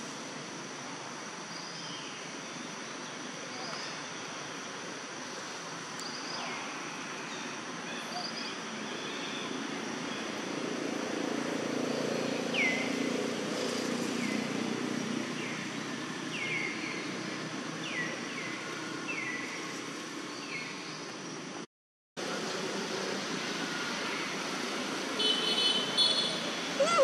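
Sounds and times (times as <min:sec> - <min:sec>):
insect drone: 0:00.0 - 0:21.6, 0:22.2 - 0:27.0.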